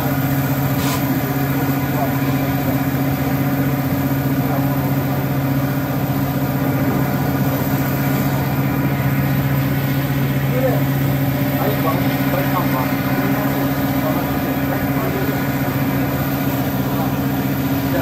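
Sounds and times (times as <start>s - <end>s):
diesel train engine drone: 0.0s - 18.0s
rush of moving train: 0.0s - 18.0s.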